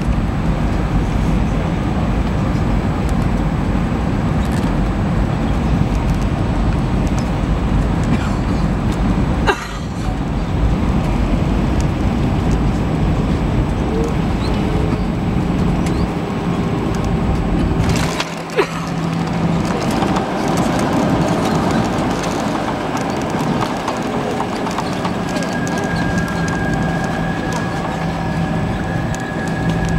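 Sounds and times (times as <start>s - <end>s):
aircraft engines and airflow rushing: 0.0s - 29.9s
rumbling and light rattling: 0.0s - 29.9s.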